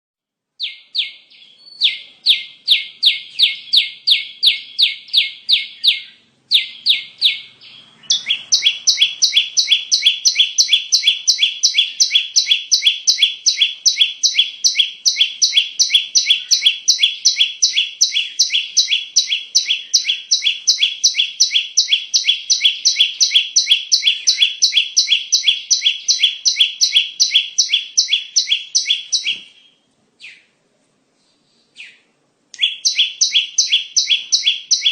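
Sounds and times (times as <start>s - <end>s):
bird chirping: 0.6s - 30.6s, 31.2s - 34.9s.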